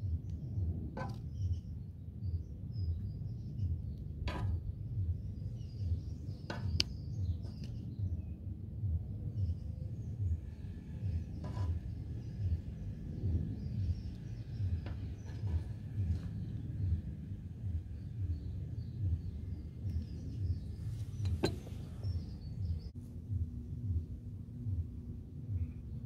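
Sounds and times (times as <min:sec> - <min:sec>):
birds chirping: 0:00.0 - 0:23.0
low rumble: 0:00.0 - 0:26.0.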